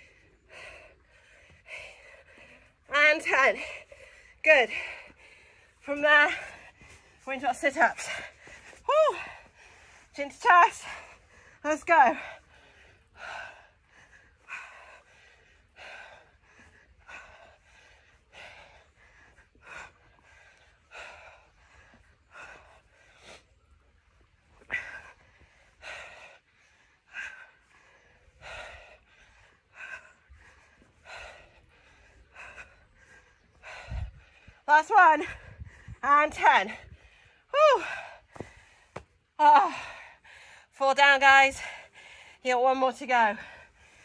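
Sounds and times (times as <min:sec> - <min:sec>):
woman breathing hard: 0:00.0 - 0:02.9, 0:07.9 - 0:36.0, 0:36.7 - 0:40.8, 0:43.3 - 0:44.0.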